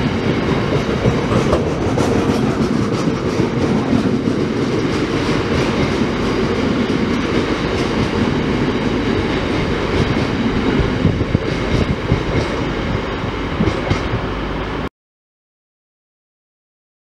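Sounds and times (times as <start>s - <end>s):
wheels clacking over rail joints: 0.0s - 14.6s
freight train passing: 0.0s - 14.9s.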